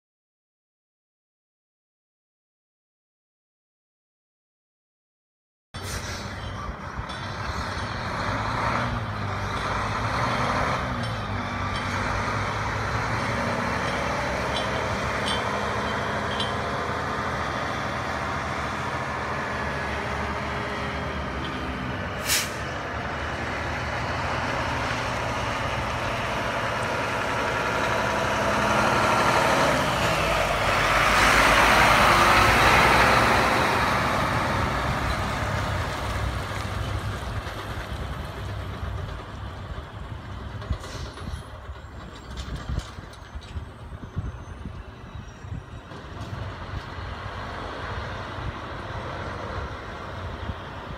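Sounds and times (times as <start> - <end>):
truck diesel engine: 5.8 - 50.9.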